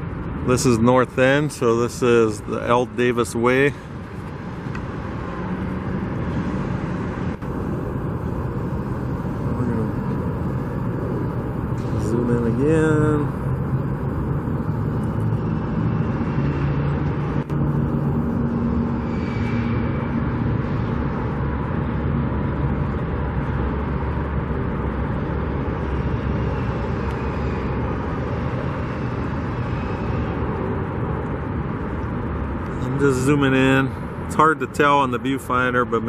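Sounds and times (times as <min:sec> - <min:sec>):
low engine hum: 0:00.0 - 0:36.0
traffic rumble: 0:00.0 - 0:36.0.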